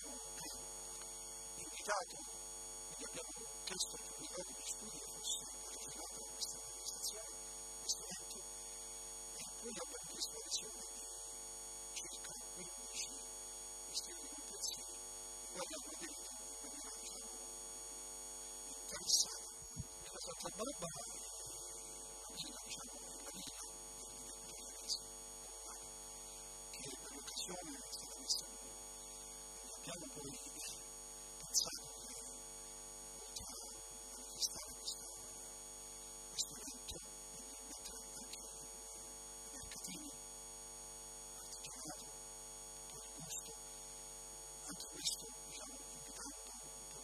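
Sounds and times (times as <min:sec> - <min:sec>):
electrical mains hum: 0:00.0 - 0:47.0
thin high whine: 0:00.0 - 0:47.0.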